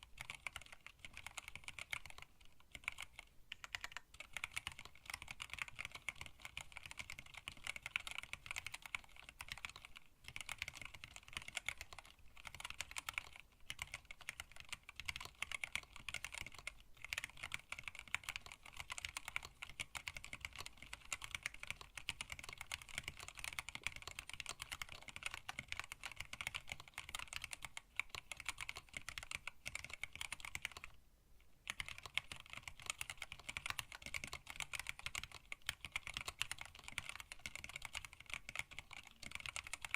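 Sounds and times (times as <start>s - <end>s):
fast typing on mechanical keyboard: 0.0s - 31.0s, 31.6s - 39.9s.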